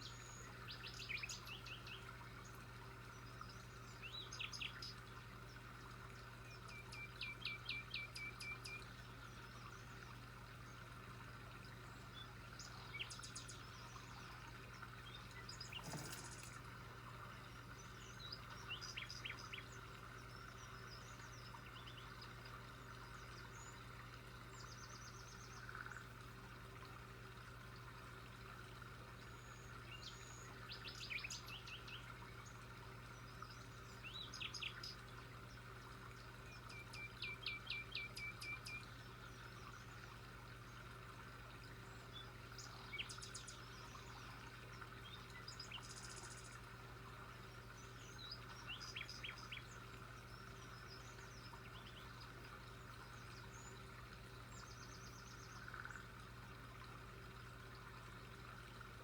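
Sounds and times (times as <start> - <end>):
songbirds chirping: 0.0 - 26.5, 28.3 - 59.0.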